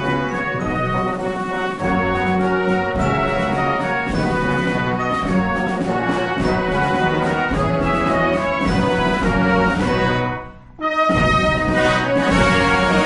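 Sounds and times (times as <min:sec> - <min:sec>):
orchestral music with brass: 0:00.0 - 0:13.0.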